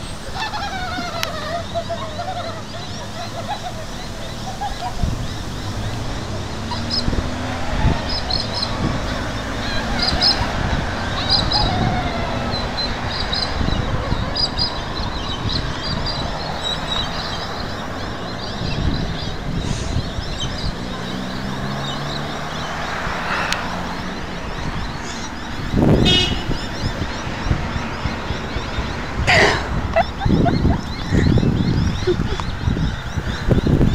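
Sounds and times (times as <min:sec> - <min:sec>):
cars passing: 0:00.0 - 0:33.9.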